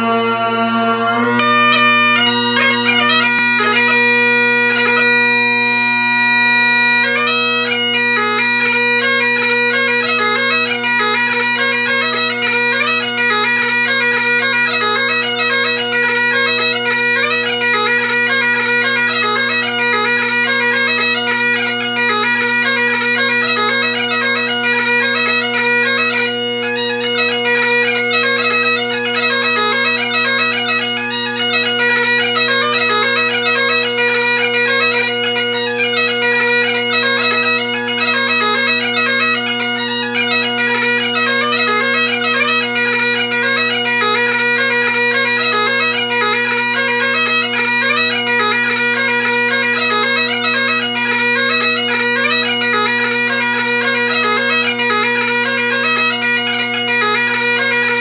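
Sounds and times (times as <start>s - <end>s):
bagpipe chanter melody: 0.0s - 58.0s
bagpipe drones: 0.0s - 58.0s.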